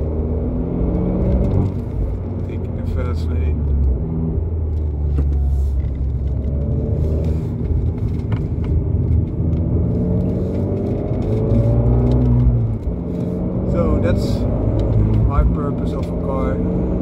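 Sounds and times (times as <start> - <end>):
car engine deep rumble: 0.0 - 17.0.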